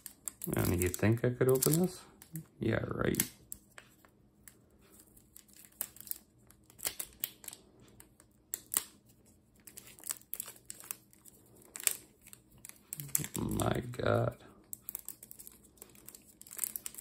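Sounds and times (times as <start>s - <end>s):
plastic wrapping crinkling: 0.0s - 2.4s, 3.0s - 17.0s.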